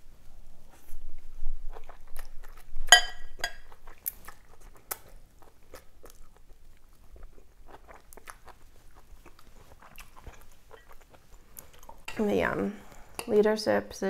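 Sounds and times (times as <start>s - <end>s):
wet chewing with crunches: 0.8s - 12.1s.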